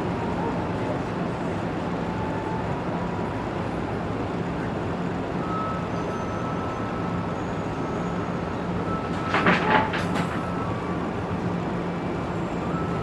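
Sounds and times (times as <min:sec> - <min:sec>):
urban traffic hum: 0:00.0 - 0:13.0.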